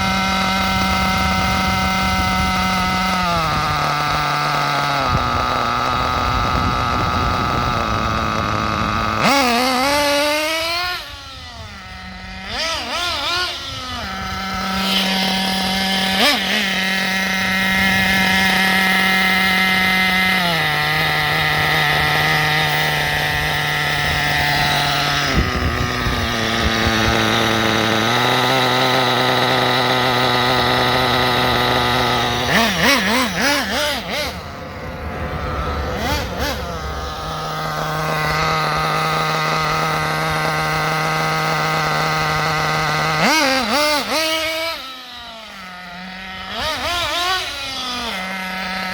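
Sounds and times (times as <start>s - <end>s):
nitro model engine idling and revving: 0.0s - 48.9s.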